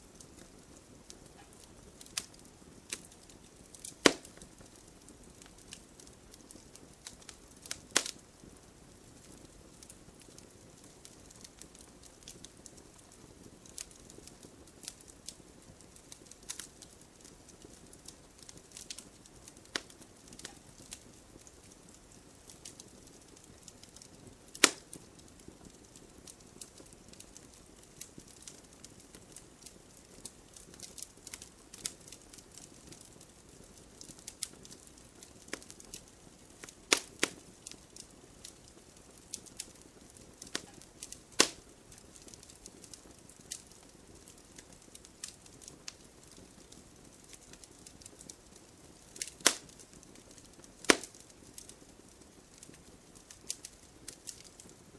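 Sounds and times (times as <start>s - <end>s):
fire popping: 0.0s - 54.9s
wood fire crackling: 0.0s - 54.9s.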